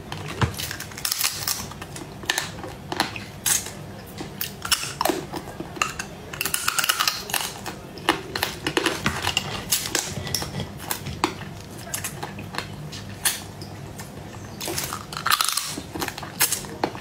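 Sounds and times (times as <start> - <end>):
shells crunching while chewed: 0.0 - 17.0.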